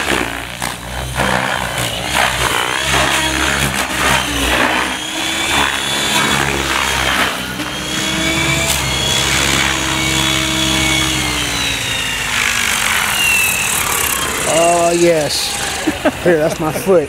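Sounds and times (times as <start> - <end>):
electric motor whining: 0.0 - 17.0
rc helicopter rotor buzzing: 0.0 - 17.0.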